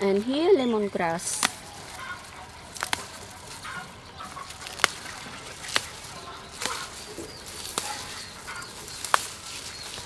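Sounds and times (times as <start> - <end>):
plant stalks snapping: 1.2 - 10.0.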